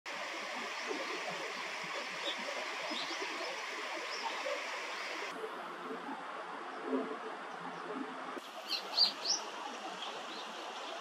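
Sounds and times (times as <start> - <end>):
flowing water rushing: 0.1 - 6.7, 8.2 - 11.0
background hiss: 0.1 - 6.8, 8.4 - 11.0.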